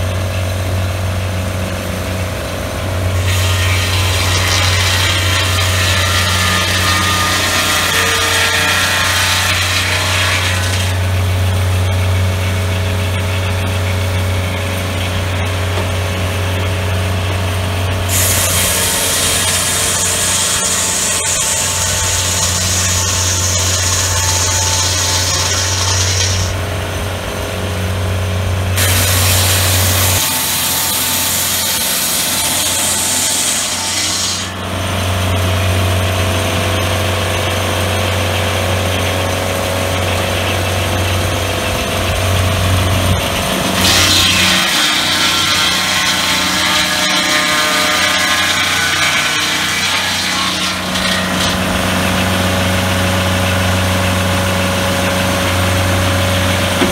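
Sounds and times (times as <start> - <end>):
sawmill engine running: 0.0 - 56.9
saw blade cutting log: 2.9 - 26.7, 28.6 - 56.9.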